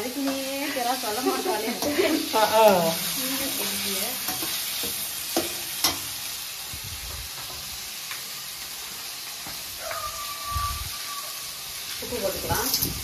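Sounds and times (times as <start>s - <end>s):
onion and tomato sizzling: 0.0s - 13.0s.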